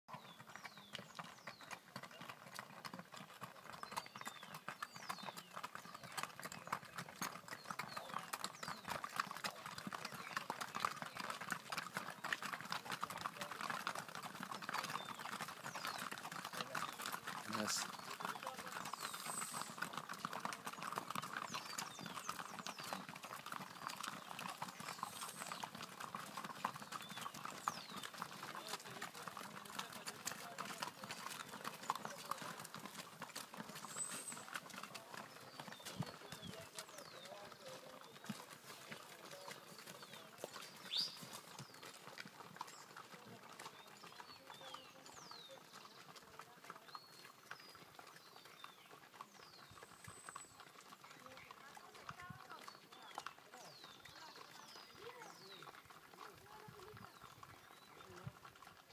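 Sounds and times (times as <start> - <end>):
mule hooves clopping: 0.1 - 58.9.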